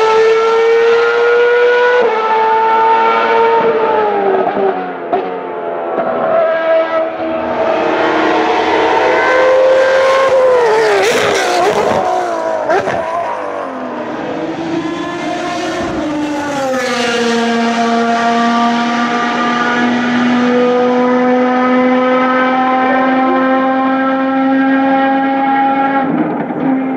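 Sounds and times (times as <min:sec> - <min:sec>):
racing car engines at high revs: 0:00.0 - 0:26.9.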